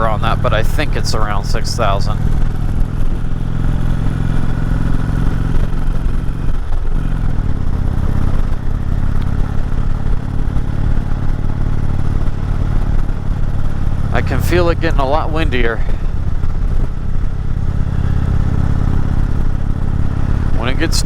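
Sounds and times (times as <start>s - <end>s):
motorcycle engine under load: 0.0s - 21.0s.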